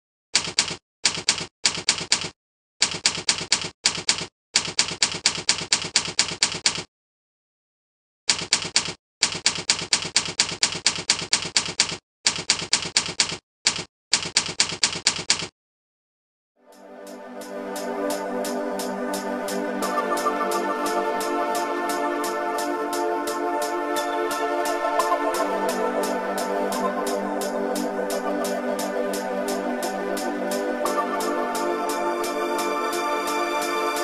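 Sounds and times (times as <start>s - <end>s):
keyboard typing: 0.4s - 6.9s, 8.3s - 15.5s, 17.4s - 32.0s.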